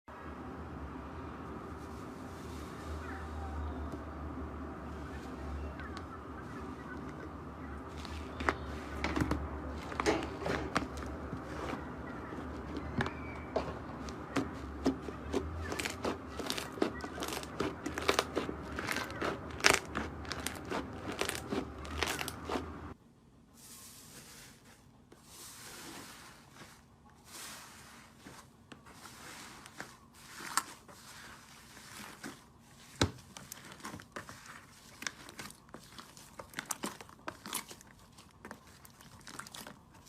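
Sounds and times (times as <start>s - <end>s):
slime squishing: 4.8s - 23.0s, 24.2s - 40.0s.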